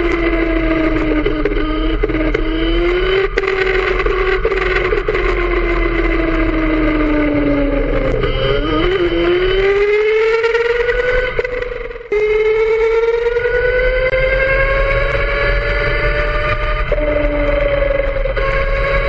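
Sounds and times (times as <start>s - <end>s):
go-kart motor running: 0.0s - 19.0s.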